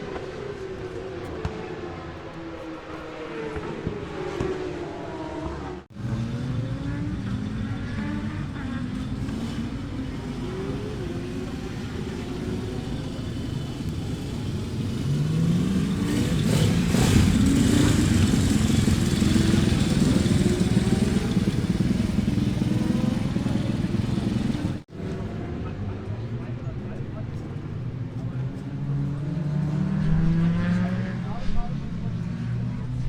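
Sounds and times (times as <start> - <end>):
racing motorcycle engine revving: 0.0 - 26.4, 27.4 - 33.0.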